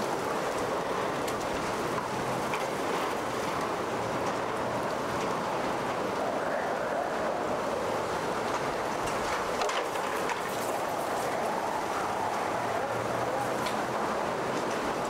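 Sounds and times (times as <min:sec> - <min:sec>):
driving rain: 0:00.0 - 0:15.0
hurricane wind: 0:00.0 - 0:15.0.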